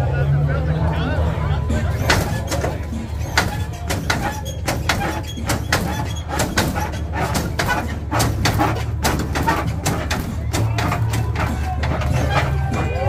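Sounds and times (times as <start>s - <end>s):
hydraulic knocks and clanks: 1.8s - 13.0s.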